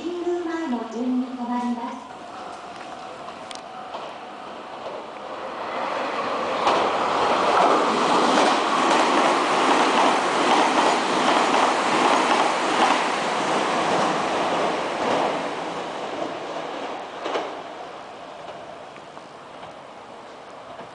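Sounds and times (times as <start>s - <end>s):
electric train passing: 2.1s - 20.9s.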